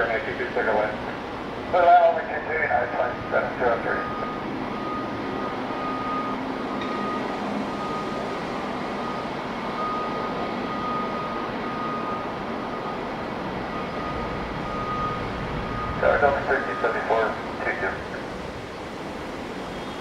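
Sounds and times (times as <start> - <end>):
faint constant whine: 0.0 - 20.0
jet aircraft noise: 0.0 - 20.0.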